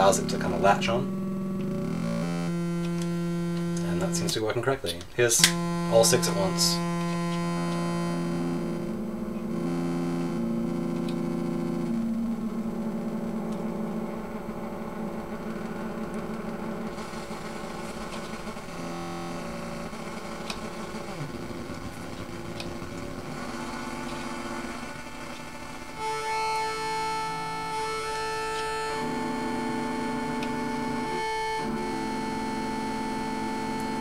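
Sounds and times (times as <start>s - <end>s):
buzzy electronic drone: 0.0s - 34.0s.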